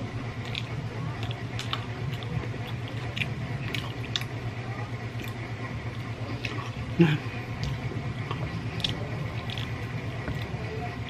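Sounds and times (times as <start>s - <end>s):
steady low hum: 0.0s - 11.0s
wet chewing smacks: 0.4s - 4.4s, 5.1s - 11.0s.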